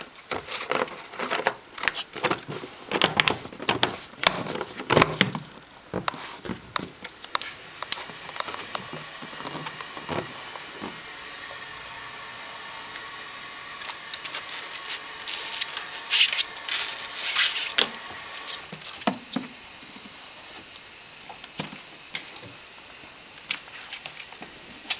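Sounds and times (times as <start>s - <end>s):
faint hum: 0.0s - 24.9s.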